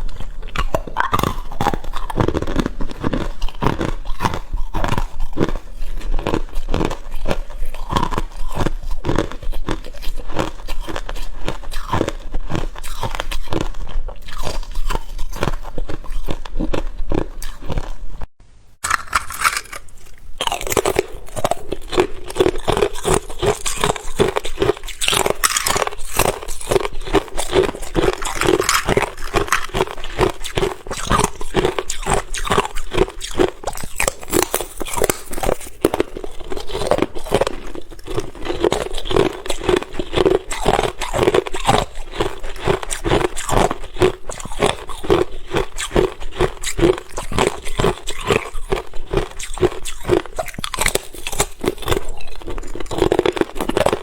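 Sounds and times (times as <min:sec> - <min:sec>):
person crunching ice: 0:00.0 - 0:18.0, 0:18.8 - 0:54.0.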